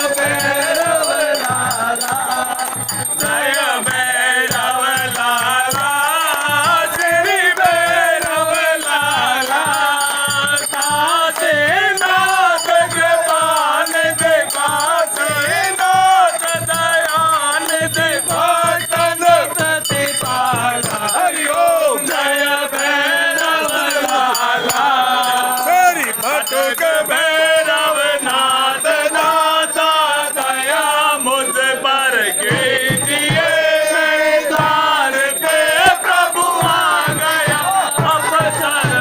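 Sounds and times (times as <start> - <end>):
steady percussion beat: 0.0 - 39.0
voices singing a hymn: 0.0 - 39.0.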